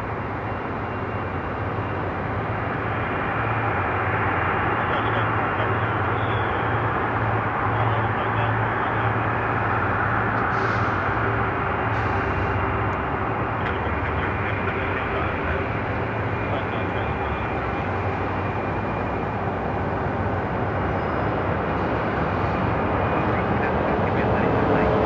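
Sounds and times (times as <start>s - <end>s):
faint high jet whine: 0.0s - 25.0s
jet engines rumbling: 0.0s - 25.0s.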